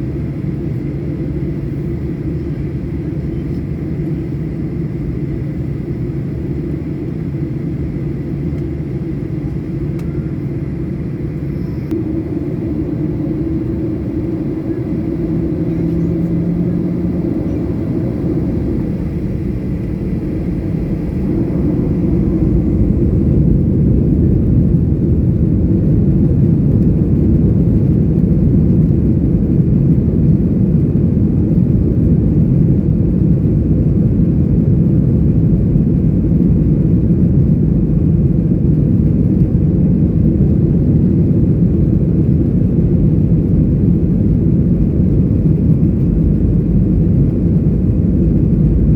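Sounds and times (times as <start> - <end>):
airliner engines rumbling in cabin: 0.0 - 48.9.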